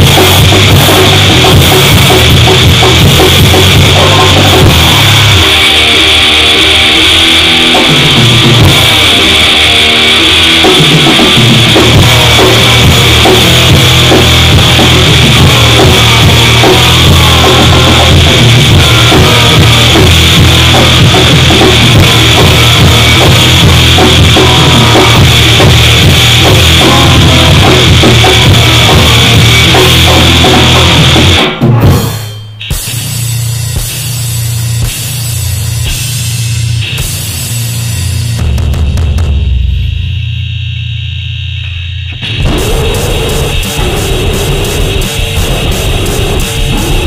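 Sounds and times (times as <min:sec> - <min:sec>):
grind music with distorted guitar: 0:00.0 - 0:47.0.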